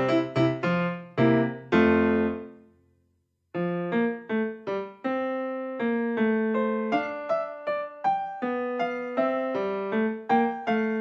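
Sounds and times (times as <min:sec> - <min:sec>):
piano melody of single notes: 0:00.0 - 0:02.7, 0:03.6 - 0:11.0.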